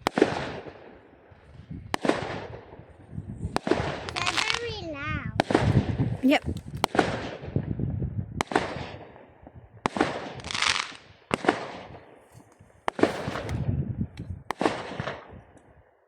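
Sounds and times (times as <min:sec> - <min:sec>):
fireworks bangs: 0:00.0 - 0:15.6.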